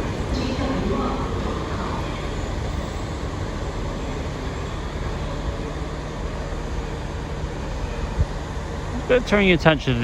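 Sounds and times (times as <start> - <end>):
train engine hum: 0.0 - 10.0.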